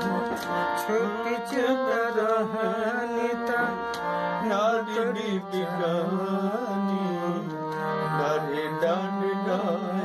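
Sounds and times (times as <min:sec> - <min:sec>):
harmonium melody: 0:00.0 - 0:10.0
person singing: 0:00.0 - 0:10.0.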